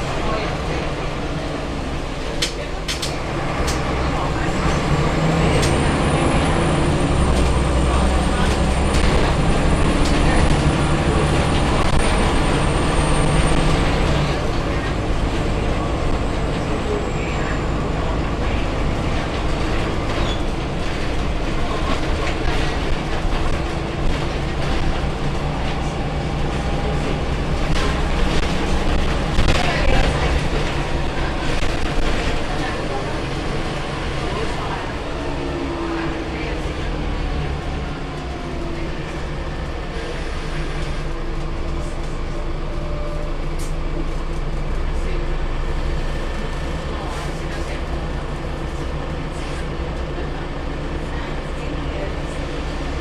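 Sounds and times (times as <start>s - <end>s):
bus diesel engine drone: 0.0s - 53.0s
rattles and clicks of bus body: 0.0s - 53.0s.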